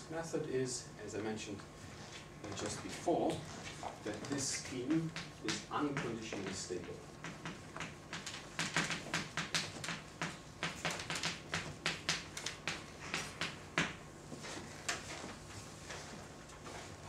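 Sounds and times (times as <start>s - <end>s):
chalk tapping and scratching: 2.5s - 17.0s.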